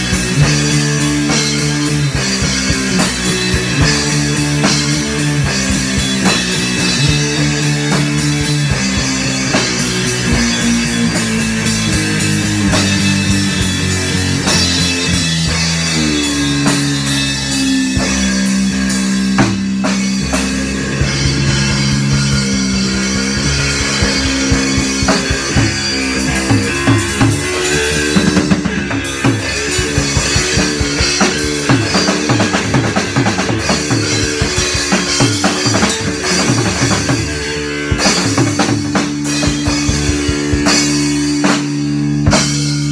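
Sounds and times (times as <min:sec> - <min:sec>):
drum kit drumming: 0:00.0 - 0:42.9
electric guitar low notes: 0:00.0 - 0:42.9.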